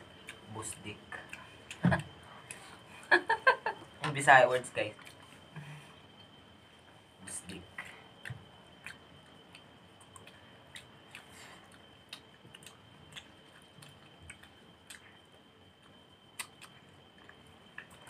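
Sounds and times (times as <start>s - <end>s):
people chewing: 0.0s - 4.0s, 5.0s - 6.4s, 7.8s - 18.0s
faint high-pitched whine: 0.0s - 18.0s.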